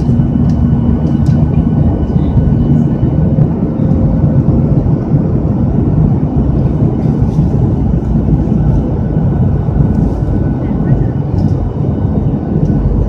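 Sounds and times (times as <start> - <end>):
jet engines and rushing air: 0.0 - 13.0.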